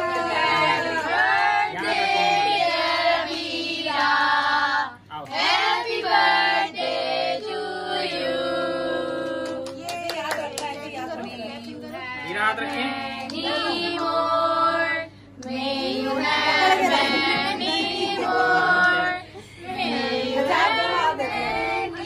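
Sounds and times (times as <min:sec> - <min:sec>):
people singing together: 0:00.0 - 0:09.8, 0:11.6 - 0:22.0.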